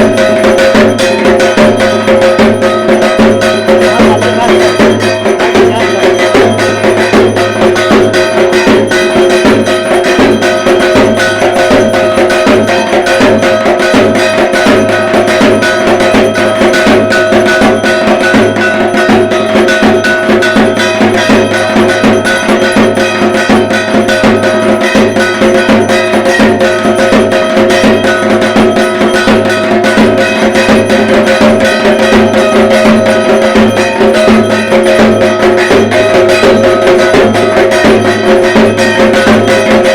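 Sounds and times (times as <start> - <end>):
barrel drums beaten fast: 0.0 - 39.9
steady ringing tones: 0.0 - 39.9.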